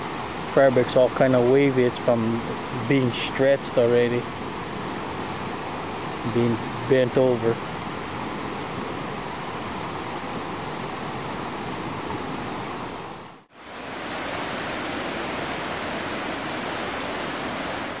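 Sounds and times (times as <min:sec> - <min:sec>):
floodwater rushing: 0:00.0 - 0:12.9, 0:13.5 - 0:18.0.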